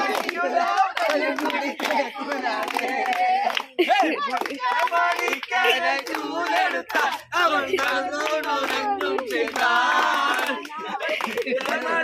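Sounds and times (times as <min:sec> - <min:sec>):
group of people singing: 0:00.0 - 0:12.0
hand clapping: 0:00.0 - 0:12.0.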